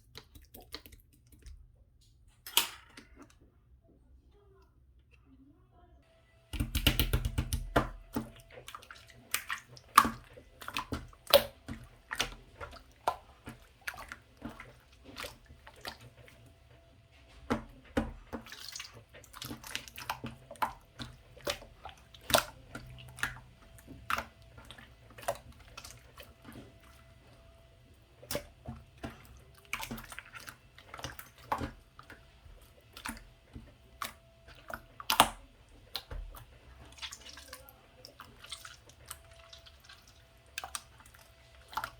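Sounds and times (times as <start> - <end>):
sharp clicks and drips: 0.0 - 3.4, 6.5 - 41.9.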